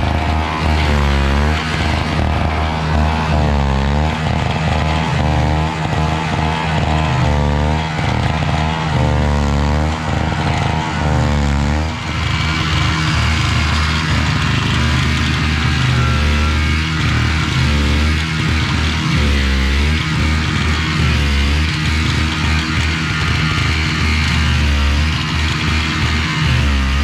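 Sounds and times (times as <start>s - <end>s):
snowblower engine running: 0.0s - 27.0s.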